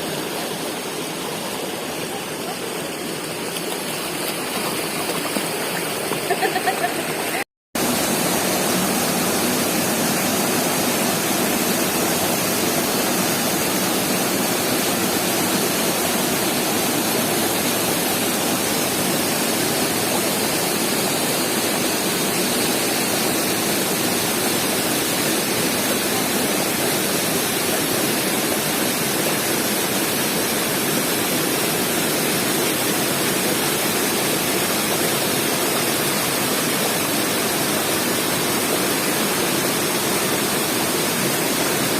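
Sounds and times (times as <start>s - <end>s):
waterfall roaring: 0.0s - 41.9s.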